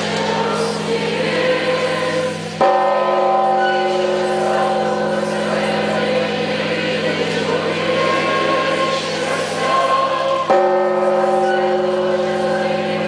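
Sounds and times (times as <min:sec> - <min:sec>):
large church bells ringing: 0:00.0 - 0:13.0.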